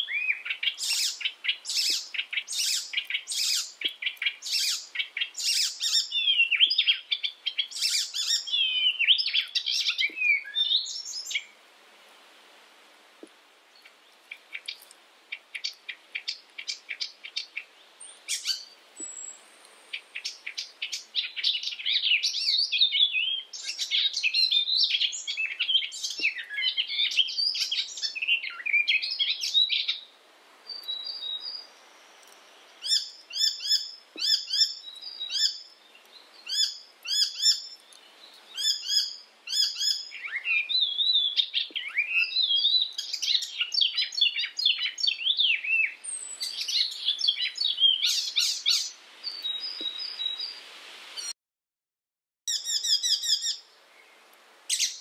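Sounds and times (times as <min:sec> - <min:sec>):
warbler singing: 0:00.0 - 0:11.6, 0:13.8 - 0:30.1, 0:30.7 - 0:50.6, 0:52.5 - 0:55.0.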